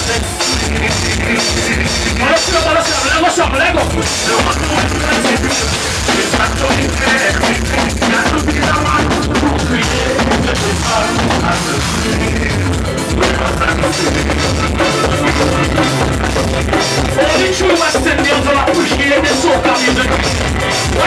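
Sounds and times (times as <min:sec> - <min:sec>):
loud soca music with bass: 0:00.0 - 0:21.0.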